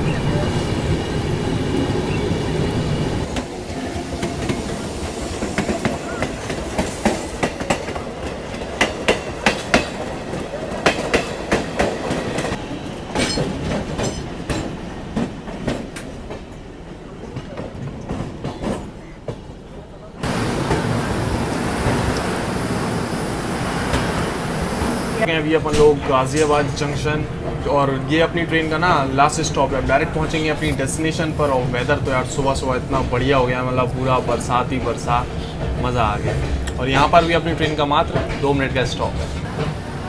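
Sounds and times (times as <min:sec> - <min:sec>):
train rumble: 0:00.0 - 0:40.0.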